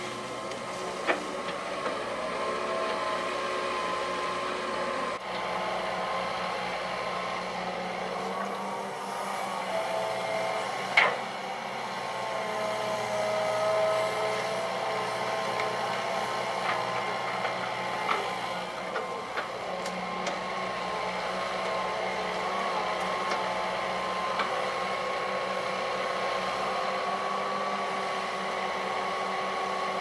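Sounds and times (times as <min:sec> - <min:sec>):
excavator diesel engine whining: 0:00.0 - 0:30.0.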